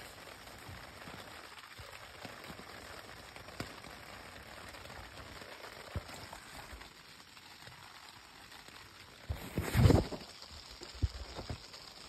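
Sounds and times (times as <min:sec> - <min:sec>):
rain hissing on a tent: 0:00.0 - 0:12.0.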